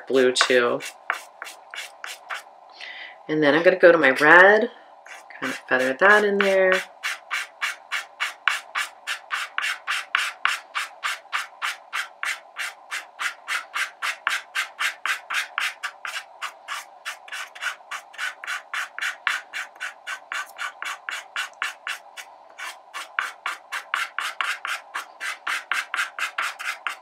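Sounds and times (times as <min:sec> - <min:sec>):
pastel stick scratching on paper: 0:00.8 - 0:02.4, 0:05.1 - 0:27.0.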